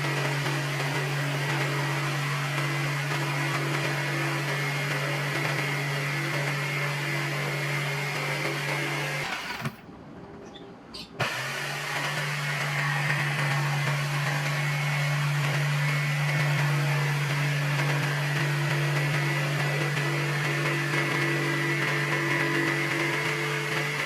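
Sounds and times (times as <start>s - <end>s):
power tool motor running: 0.0s - 9.8s, 11.2s - 24.0s.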